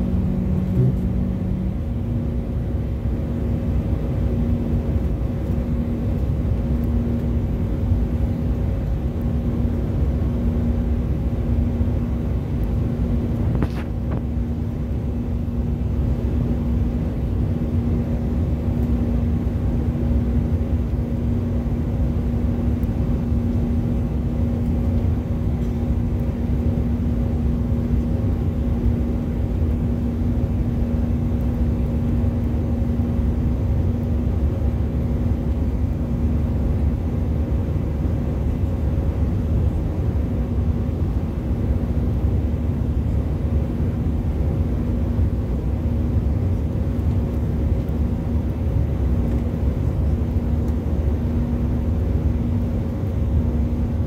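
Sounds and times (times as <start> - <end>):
jet engine drone: 0.0 - 54.0
steady low hum: 0.0 - 54.0.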